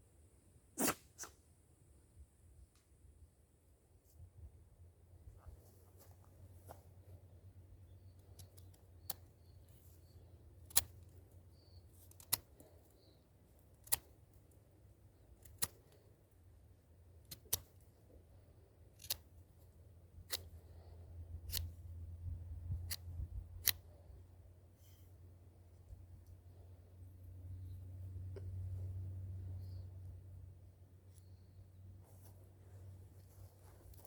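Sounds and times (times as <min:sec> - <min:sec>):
faint low hum: 0:00.0 - 0:34.0.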